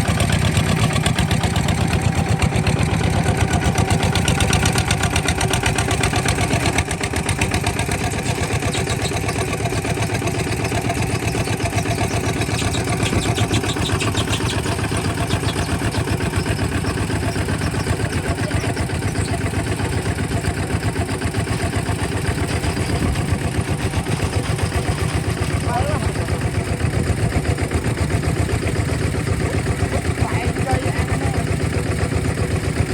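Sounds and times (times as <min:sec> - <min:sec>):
diesel engine chugging: 0:00.0 - 0:32.9.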